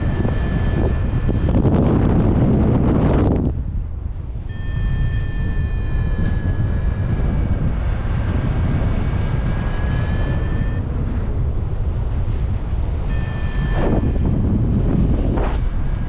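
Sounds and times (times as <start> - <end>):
continuous electronic tone: 0.0 - 16.0
wind buffeting microphone: 0.0 - 16.0.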